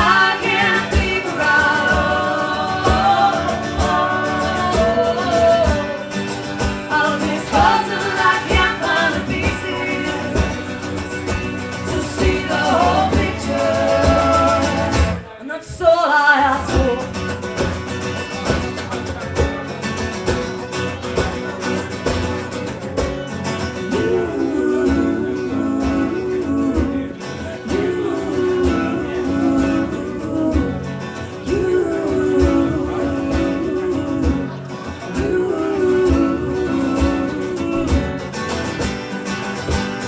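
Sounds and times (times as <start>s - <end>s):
acoustic guitar strumming: 0.0s - 15.4s, 16.4s - 40.0s.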